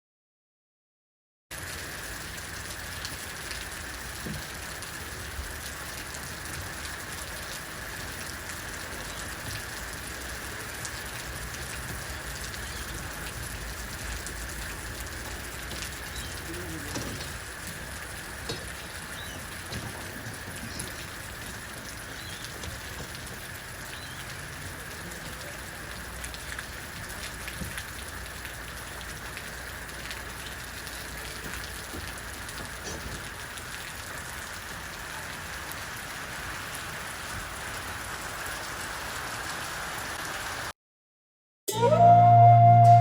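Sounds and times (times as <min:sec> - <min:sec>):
rain hissing: 0:01.5 - 0:40.7
raindrop ticks: 0:01.6 - 0:38.8.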